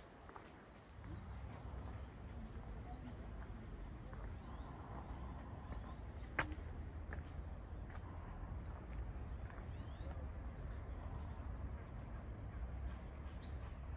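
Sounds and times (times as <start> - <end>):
garden birds chirping: 0.0 - 13.9.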